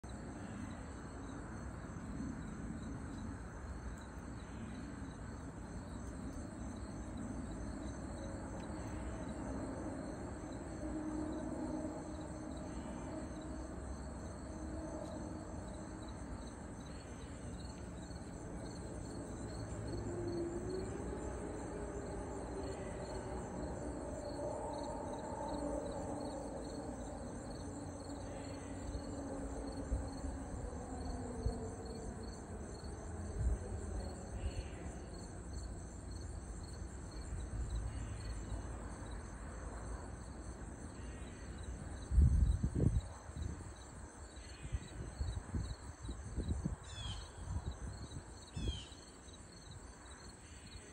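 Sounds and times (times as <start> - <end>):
insect chorus trilling: 0.1 - 50.9.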